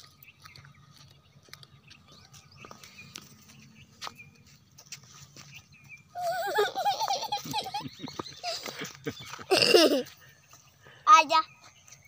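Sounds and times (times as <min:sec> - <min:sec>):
footsteps crunching on dirt path: 0:00.0 - 0:06.2, 0:07.8 - 0:12.0
bird chirps: 0:00.0 - 0:12.0.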